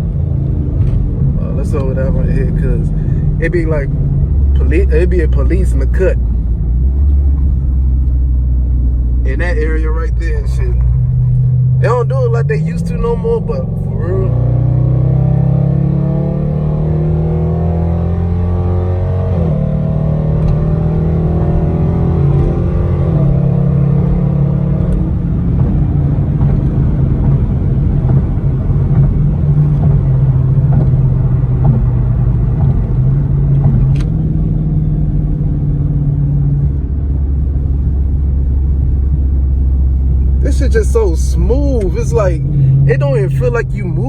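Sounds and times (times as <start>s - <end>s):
car engine accelerating: 0.0s - 44.0s
road noise: 0.0s - 44.0s.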